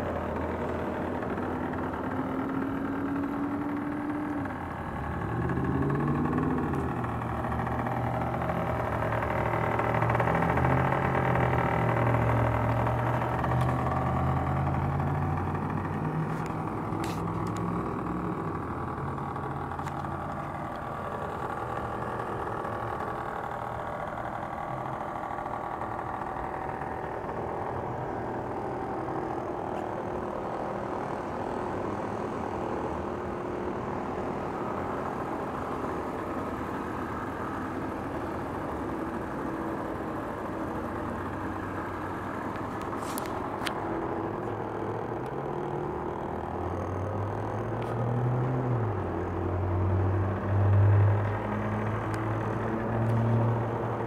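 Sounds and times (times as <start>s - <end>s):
scooter engine idling: 0.0s - 54.0s.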